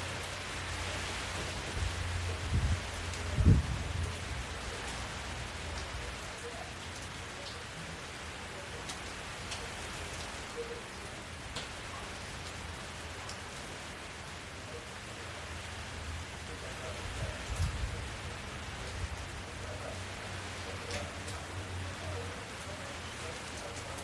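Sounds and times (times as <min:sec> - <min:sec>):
rain on hard surfaces: 0:00.0 - 0:24.0.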